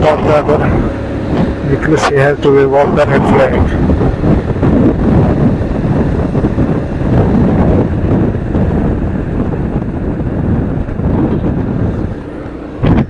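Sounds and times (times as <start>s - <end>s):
road and traffic noise: 0.0s - 13.0s
wind rumble on microphone: 0.0s - 13.0s.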